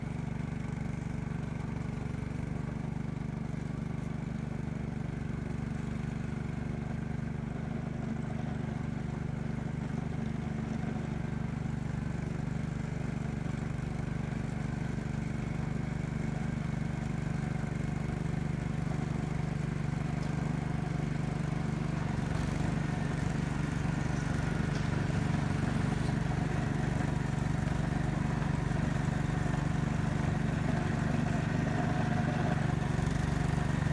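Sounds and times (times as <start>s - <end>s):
tractor engine running under load: 0.0s - 33.9s.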